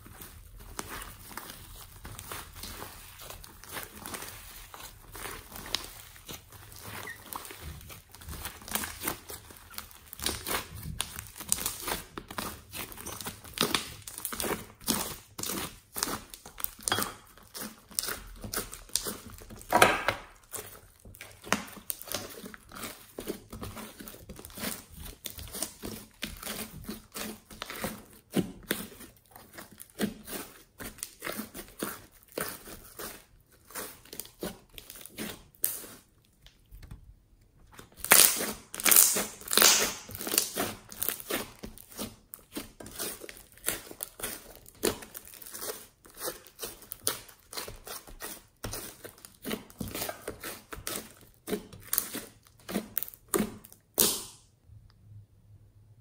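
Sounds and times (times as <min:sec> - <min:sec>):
slime crackling and popping: 0:00.1 - 0:36.9, 0:37.7 - 0:54.5.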